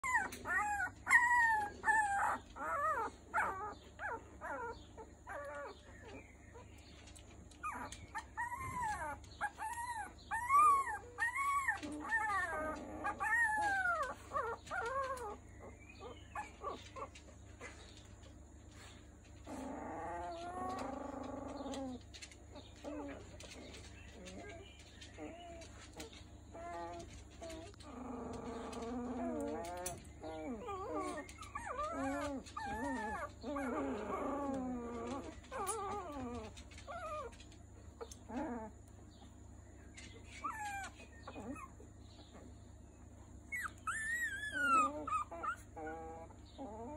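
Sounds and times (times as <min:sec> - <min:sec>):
puppies whining and squealing: 0:00.0 - 0:46.9.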